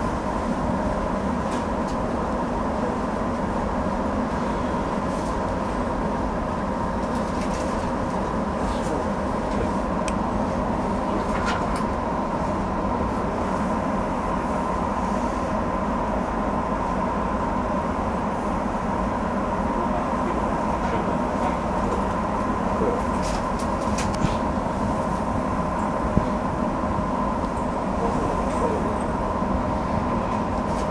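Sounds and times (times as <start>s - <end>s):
electric train humming: 0.0s - 30.9s.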